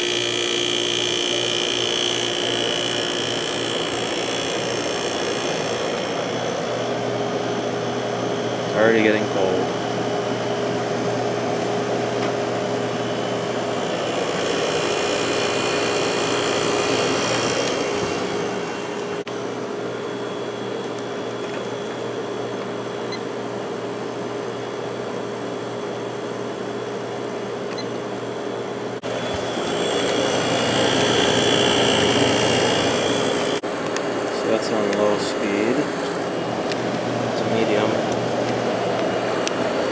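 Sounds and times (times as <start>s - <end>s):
air conditioner air rush: 0.0s - 27.7s, 28.5s - 39.9s
compressor hum: 0.0s - 39.9s.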